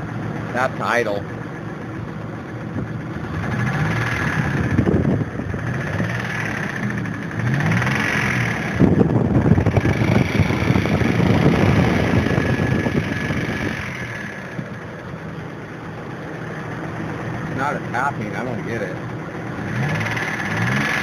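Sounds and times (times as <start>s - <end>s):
car engine revving: 2.4s - 21.0s.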